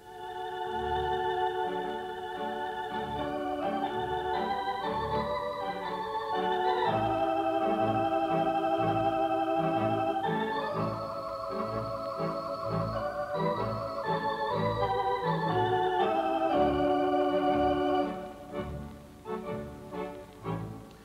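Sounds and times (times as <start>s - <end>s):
organ music: 0.0s - 21.0s.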